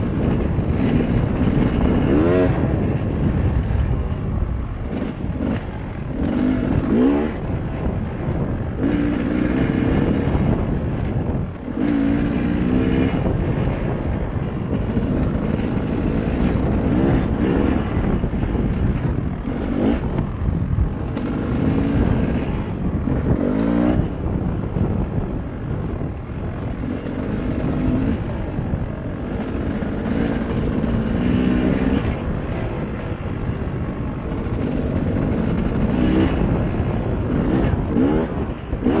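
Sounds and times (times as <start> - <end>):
dirt bike engine revving: 0.0 - 4.2, 4.8 - 39.0.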